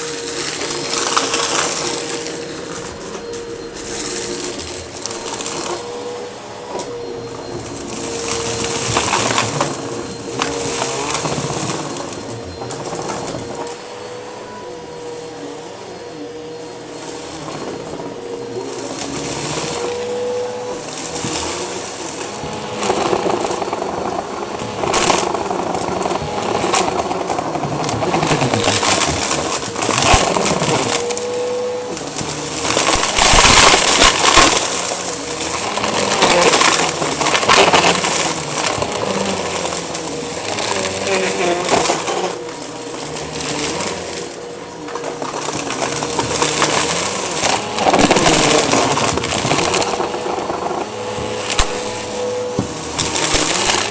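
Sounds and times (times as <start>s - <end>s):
vacuum cleaner motor hum: 0.0s - 53.9s.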